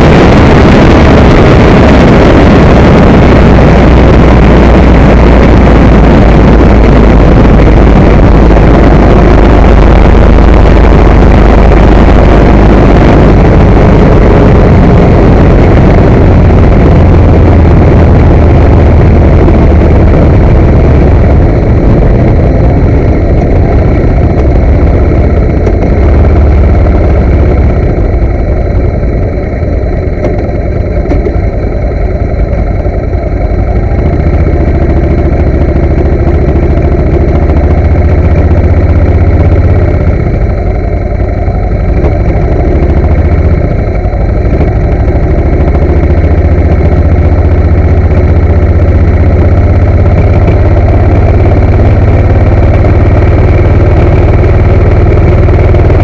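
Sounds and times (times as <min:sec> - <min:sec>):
motorcycle engine running at speed: 0:00.0 - 0:56.0
wind rush over microphone: 0:00.0 - 0:56.0.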